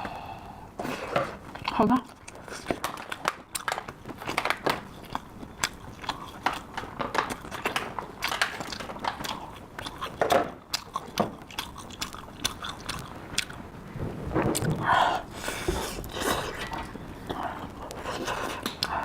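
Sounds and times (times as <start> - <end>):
person chewing crunchy food: 0.9 - 13.7, 14.6 - 19.0.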